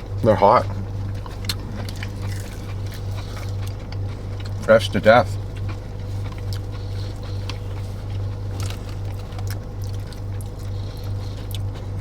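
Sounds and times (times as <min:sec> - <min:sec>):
car idling hum: 0:00.0 - 0:12.0
eating clicks: 0:00.6 - 0:11.8.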